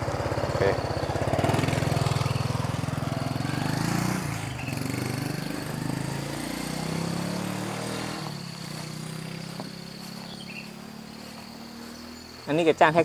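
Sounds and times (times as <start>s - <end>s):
small engine running: 0.0s - 13.0s
high insect buzz: 0.6s - 13.0s.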